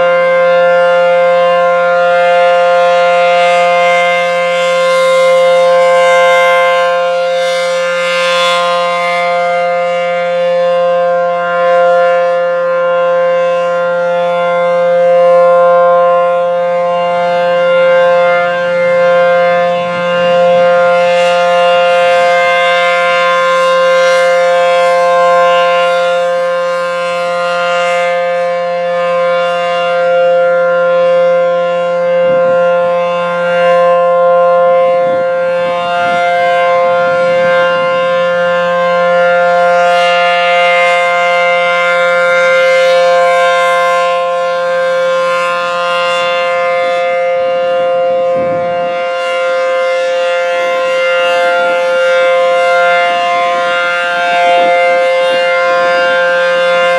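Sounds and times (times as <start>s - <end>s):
outdoor warning siren steady tone: 0.0s - 56.9s.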